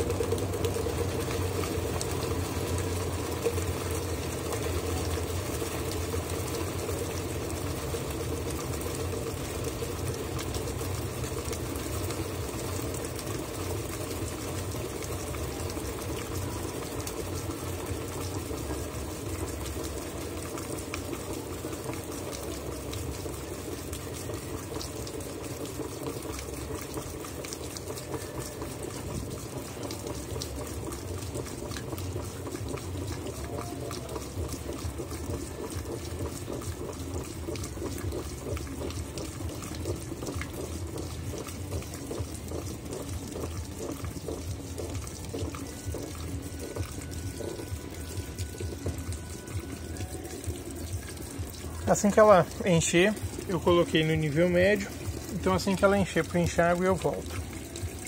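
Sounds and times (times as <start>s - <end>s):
washing machine hum: 0.0s - 58.0s
water splashing into washing machine: 0.0s - 58.0s.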